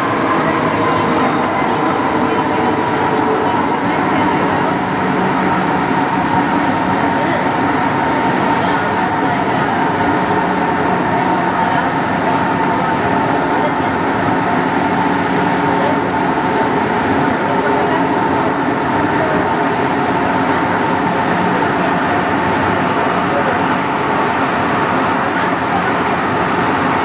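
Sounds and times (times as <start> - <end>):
train rumble and rail noise: 0.0 - 27.0.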